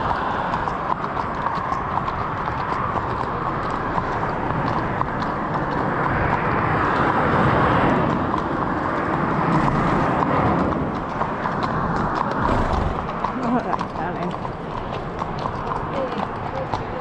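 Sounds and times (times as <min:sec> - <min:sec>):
traffic passing: 0:00.0 - 0:17.0.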